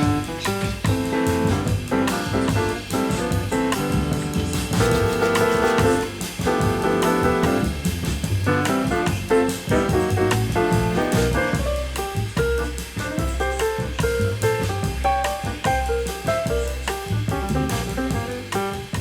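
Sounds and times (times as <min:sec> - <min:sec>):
upbeat jazz music: 0:00.0 - 0:19.0.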